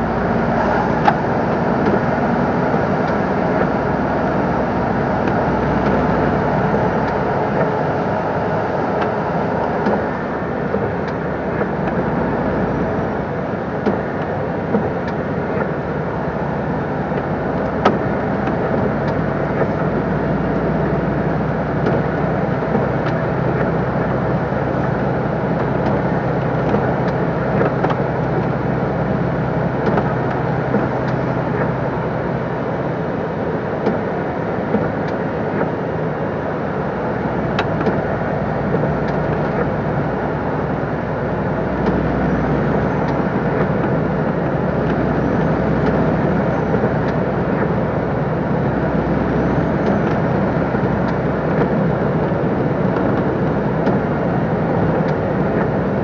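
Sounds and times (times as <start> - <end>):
diesel engine running: 0.0 - 56.0
road and tyre noise: 0.0 - 56.0.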